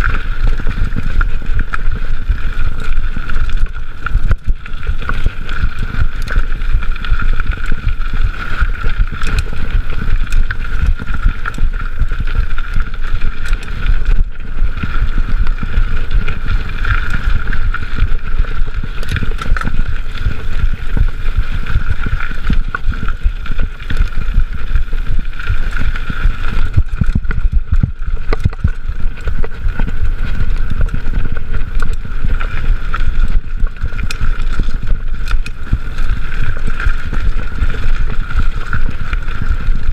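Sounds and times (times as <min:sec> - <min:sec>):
bike tyres rumbling on trail: 0:00.0 - 0:39.9.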